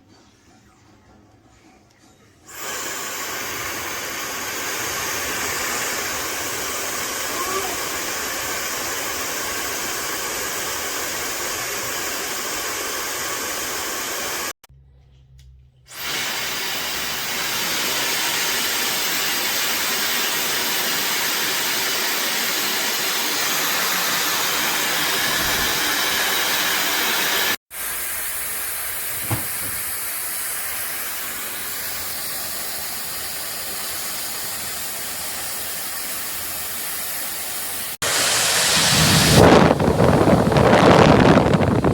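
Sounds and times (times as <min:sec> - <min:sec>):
hair dryer blowing: 0:02.5 - 0:14.6, 0:15.9 - 0:41.9.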